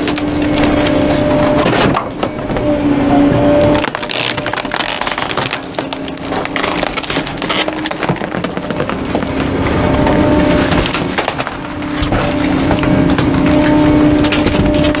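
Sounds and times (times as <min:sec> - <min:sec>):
wooden furniture cracking and splintering: 0:00.0 - 0:02.6, 0:03.5 - 0:15.0
garbage truck hum: 0:00.0 - 0:15.0.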